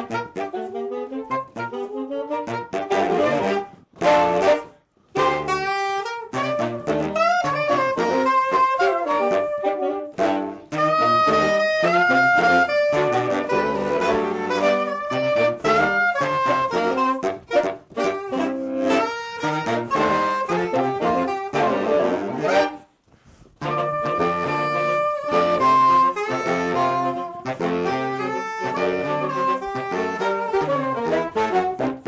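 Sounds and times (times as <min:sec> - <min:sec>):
saxophone quartet playing: 0:00.0 - 0:32.0.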